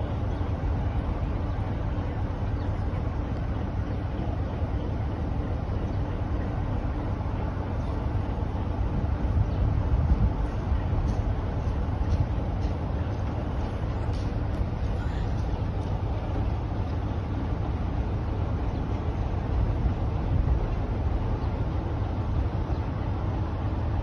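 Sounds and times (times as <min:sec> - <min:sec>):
diesel locomotive engine rumbling: 0:00.0 - 0:24.0.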